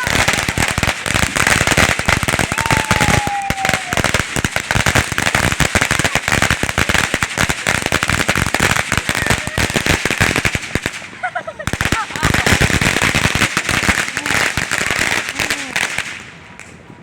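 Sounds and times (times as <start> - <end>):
firecrackers popping: 0.0 - 17.0.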